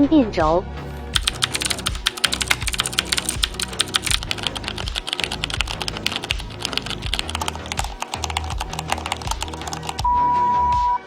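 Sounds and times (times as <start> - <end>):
background music: 0.0 - 11.0
fast mechanical keyboard typing: 1.2 - 10.0.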